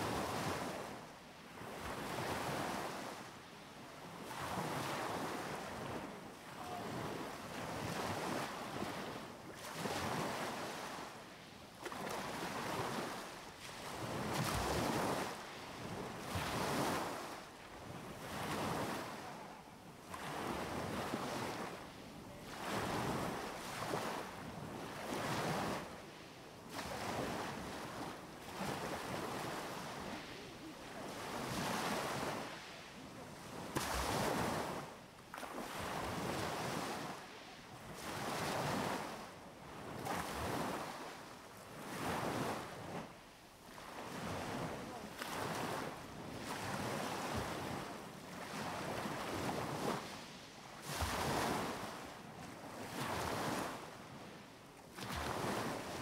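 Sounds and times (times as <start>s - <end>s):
sea waves breaking on a beach: 0.0s - 56.0s.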